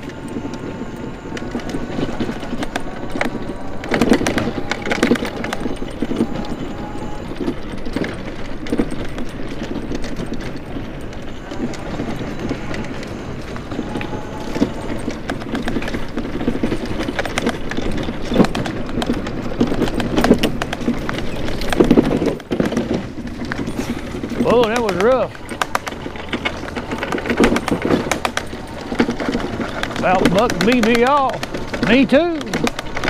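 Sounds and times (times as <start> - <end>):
scooter rattling over bumps: 0.0 - 33.0.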